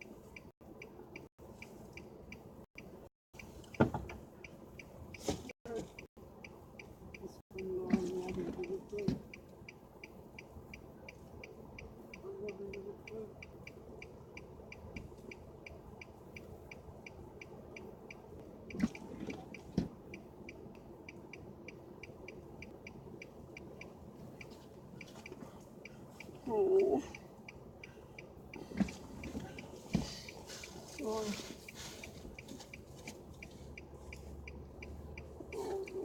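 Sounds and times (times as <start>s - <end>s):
car turn signal ticking: 0.0s - 36.0s.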